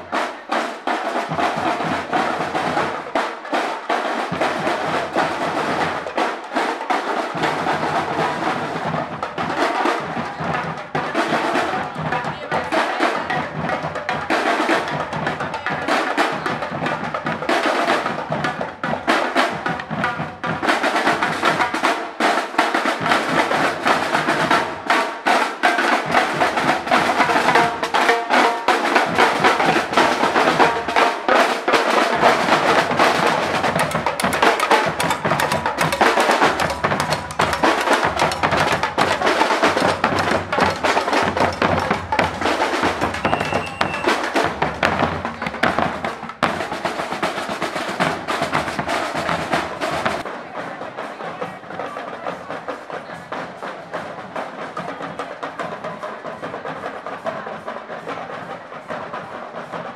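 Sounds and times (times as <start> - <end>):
marching bass drums: 0.0 - 50.2
snare drums: 0.0 - 59.9.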